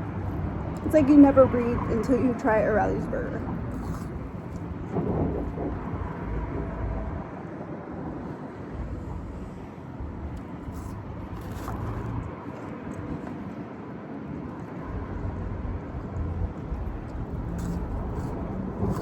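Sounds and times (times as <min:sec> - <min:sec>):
car rumble: 0:00.0 - 0:13.3, 0:14.3 - 0:19.0.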